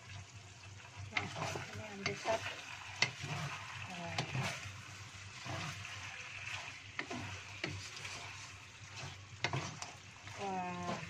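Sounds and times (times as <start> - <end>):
low sizzle: 0.0 - 11.0
wooden spatula scraping a wok: 0.8 - 11.0.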